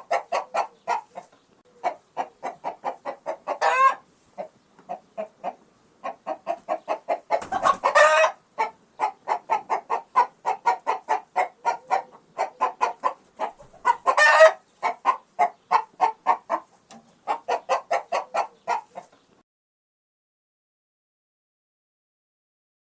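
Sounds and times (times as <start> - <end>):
chicken squawks: 0.0 - 19.1
chicken clucking: 0.0 - 19.4.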